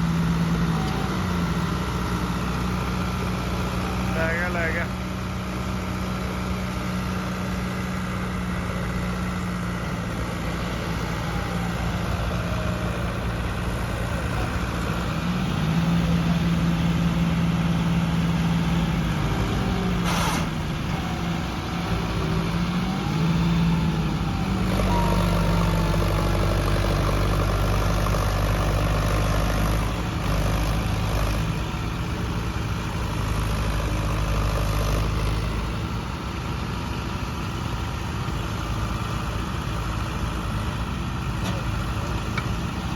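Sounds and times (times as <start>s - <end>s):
tractor diesel engines running: 0.0s - 42.9s.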